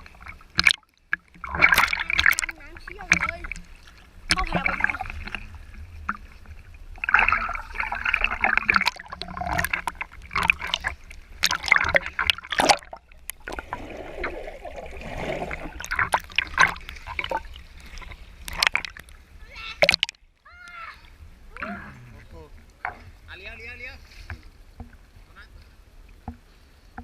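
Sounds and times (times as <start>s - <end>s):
stream water splashing and gurgling: 0.0s - 27.0s.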